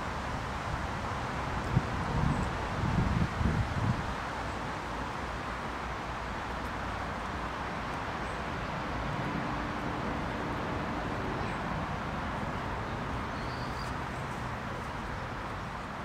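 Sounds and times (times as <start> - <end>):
outdoor rushing hum: 0.0 - 16.0.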